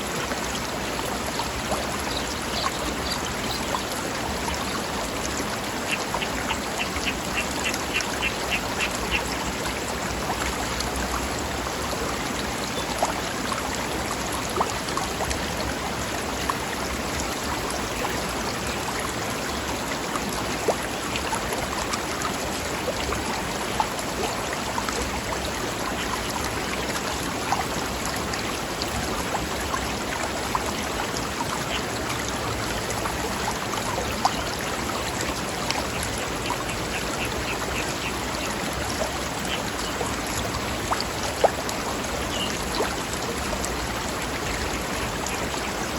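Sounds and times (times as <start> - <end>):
stream babbling over rocks: 0.0 - 45.9.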